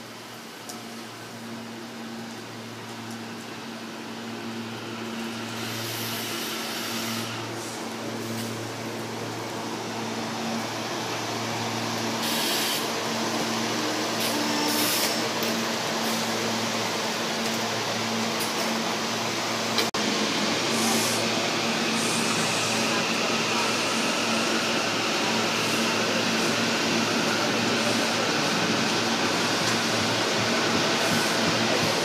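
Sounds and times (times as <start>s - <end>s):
electric train hum: 0.0s - 32.0s
wheel and rail rushing noise: 0.0s - 32.0s.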